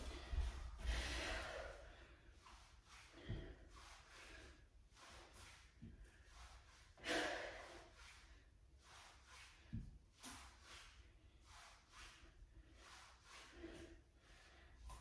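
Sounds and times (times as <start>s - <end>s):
person breathing hard and fast: 0.0s - 15.0s.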